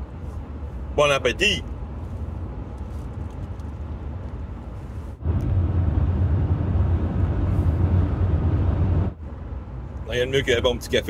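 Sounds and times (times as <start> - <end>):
engine and tyres rumbling: 0.0 - 11.0
vehicle cabin hum: 0.0 - 11.0.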